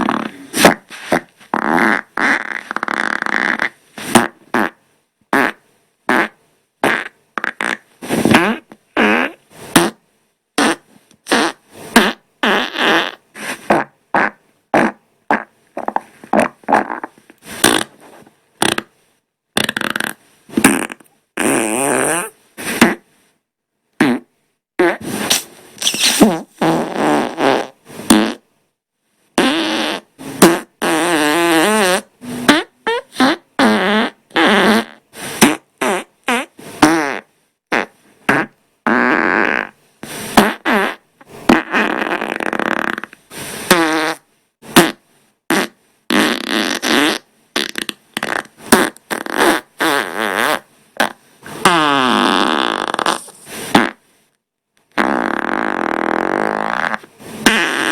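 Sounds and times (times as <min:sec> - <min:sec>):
farts: 0:00.0 - 0:10.0, 0:10.6 - 0:18.9, 0:19.6 - 0:23.1, 0:24.0 - 0:28.5, 0:29.4 - 0:54.0, 0:54.8 - 0:57.9.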